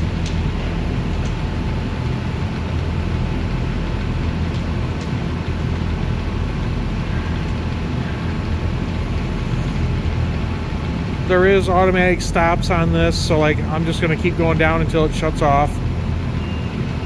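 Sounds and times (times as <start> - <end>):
machine drive droning: 0.0 - 17.0.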